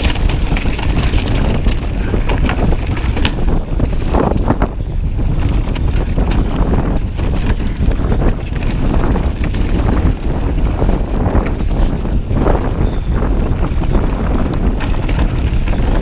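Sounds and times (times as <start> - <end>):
mountain bike knocks and rattles: 0.0 - 16.0
wind buffeting microphone: 0.0 - 16.0.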